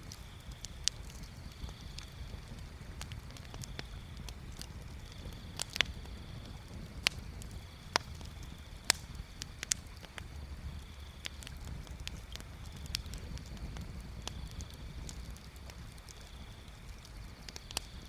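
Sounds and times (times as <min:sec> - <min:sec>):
bonfire crackling and popping: 0:00.0 - 0:18.0
low steady fire rumble: 0:00.0 - 0:18.0.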